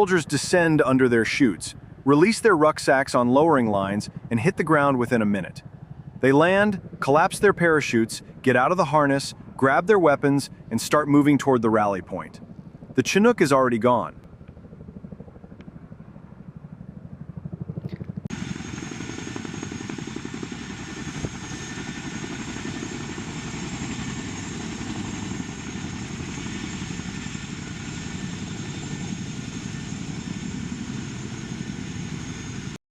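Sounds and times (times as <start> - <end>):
helicopter rotors beating: 0.0 - 32.8.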